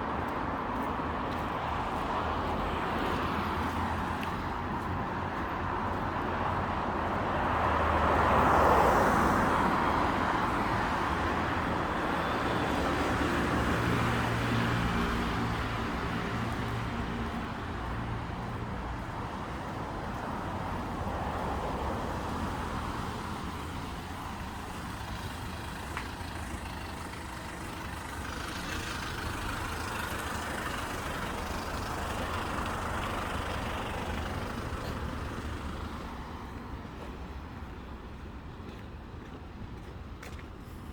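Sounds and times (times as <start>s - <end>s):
road traffic passing: 0.0s - 40.9s
engine hum: 1.9s - 40.9s.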